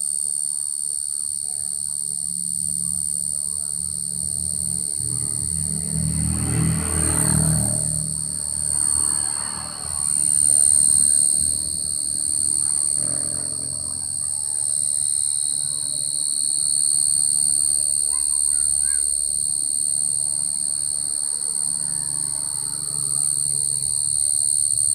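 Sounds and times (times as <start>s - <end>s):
cricket trilling: 0.0s - 24.9s.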